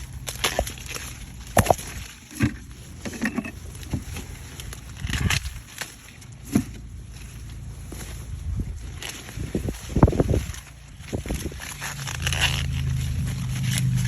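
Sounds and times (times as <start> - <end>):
corn leaves rustling: 0.0 - 14.0
low rumble: 0.0 - 14.0
stalks cracking: 0.0 - 14.0.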